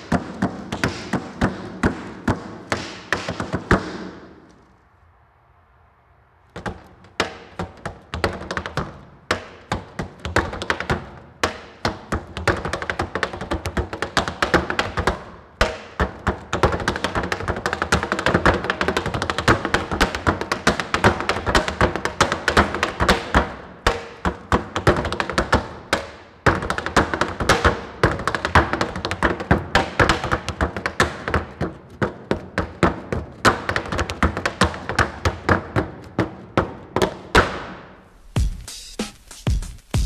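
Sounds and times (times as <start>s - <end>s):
tap shoes on wooden board: 0.0s - 4.6s, 6.5s - 37.8s.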